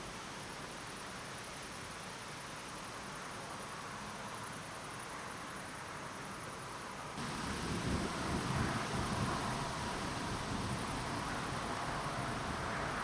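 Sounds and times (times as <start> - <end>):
night outdoor ambience hiss: 0.0 - 13.0.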